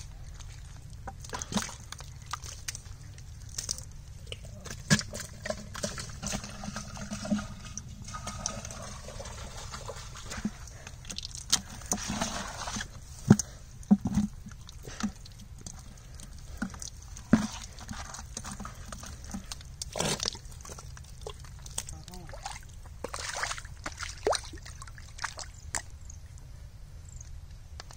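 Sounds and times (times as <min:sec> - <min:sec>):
eels slithering in water: 0:00.0 - 0:26.0.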